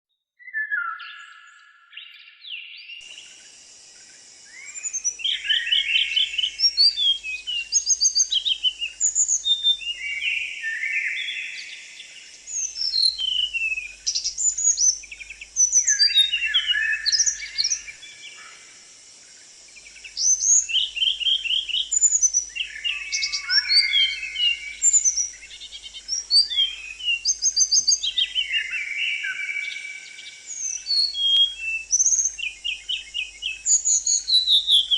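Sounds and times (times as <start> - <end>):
songbird singing: 0.4 - 34.9
steady high hiss: 3.0 - 34.9.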